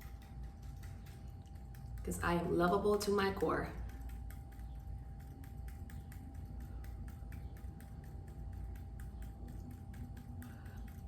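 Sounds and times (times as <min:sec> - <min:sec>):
fingertips tapping on body: 0:00.0 - 0:11.0.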